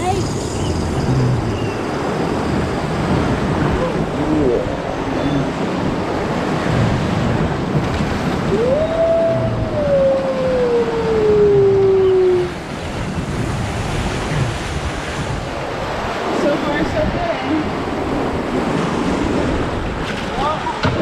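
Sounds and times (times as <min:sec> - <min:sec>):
rushing white water: 0:00.0 - 0:21.0
wind on microphone: 0:00.0 - 0:21.0.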